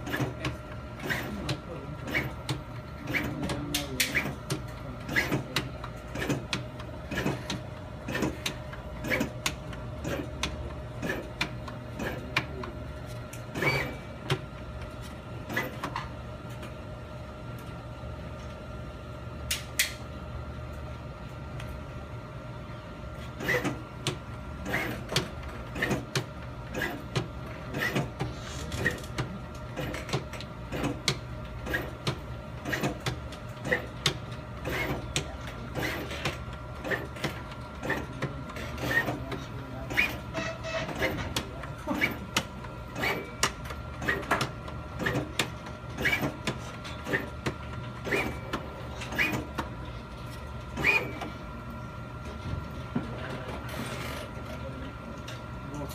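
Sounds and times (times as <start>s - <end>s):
steady machine hum: 0.0s - 55.9s.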